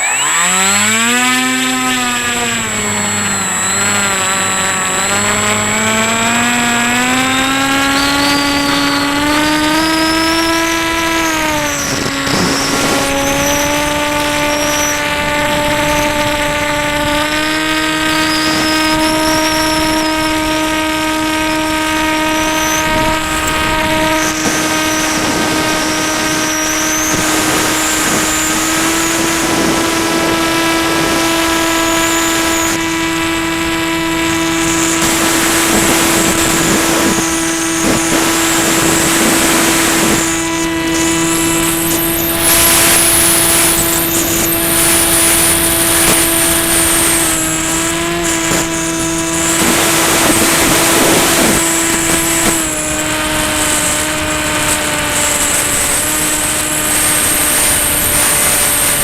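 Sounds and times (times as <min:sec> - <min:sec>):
electric motor propeller drone: 0:00.0 - 0:59.0.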